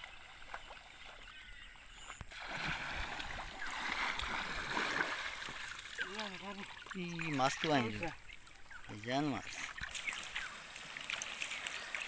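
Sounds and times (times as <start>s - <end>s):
shallow water rushing and splashing: 2.3s - 12.0s.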